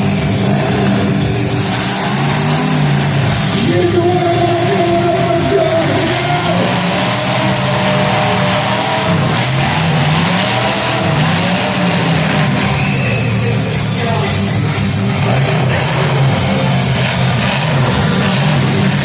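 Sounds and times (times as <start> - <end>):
car engines revving: 0.0 - 19.0
steady din: 0.3 - 19.0.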